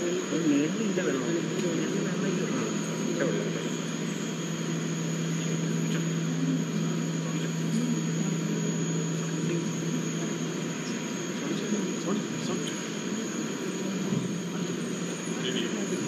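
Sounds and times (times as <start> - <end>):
steady mechanical hum: 0.0 - 16.0
low droning tone: 0.8 - 16.0.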